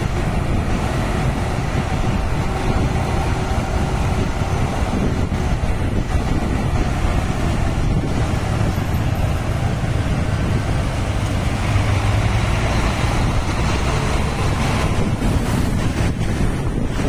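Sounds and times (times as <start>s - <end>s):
coach engine rumble: 0.0s - 17.0s
road noise: 0.0s - 17.0s.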